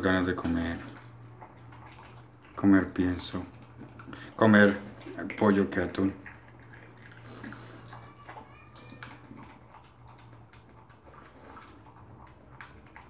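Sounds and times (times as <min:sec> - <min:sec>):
dog chewing dry food: 0:00.0 - 0:13.0.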